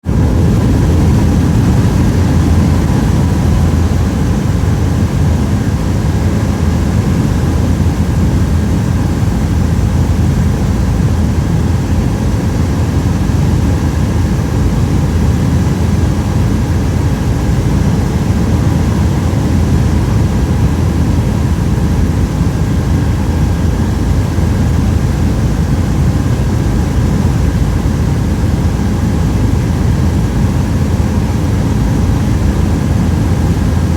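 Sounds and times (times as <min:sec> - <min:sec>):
helicopter engine and rotor drone: 0:00.0 - 0:33.9.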